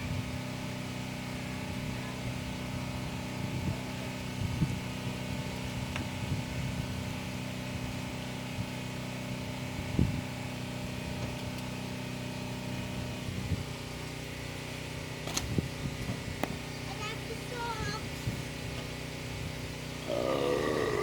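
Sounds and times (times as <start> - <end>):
engine humming steadily: 0.0 - 21.0.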